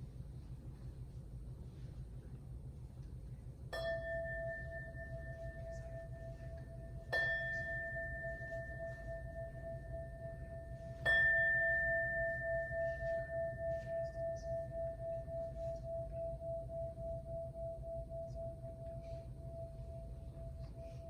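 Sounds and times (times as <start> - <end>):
singing bowl ringing: 3.7 - 21.0.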